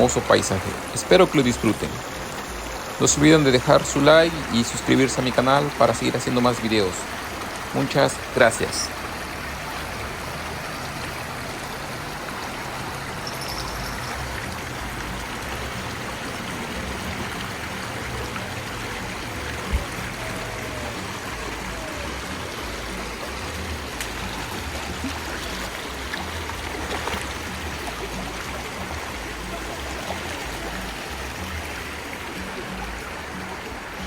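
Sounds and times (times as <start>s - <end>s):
mountain river rushing: 0.0s - 34.0s.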